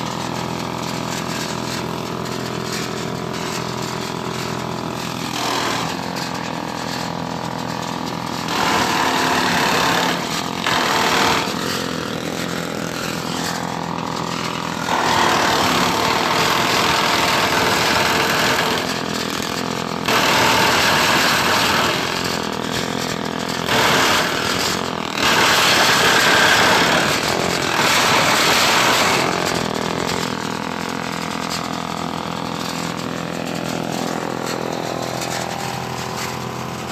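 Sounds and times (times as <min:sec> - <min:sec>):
grass being chopped: 0:00.0 - 0:36.9
grass chopper engine running: 0:00.0 - 0:36.9.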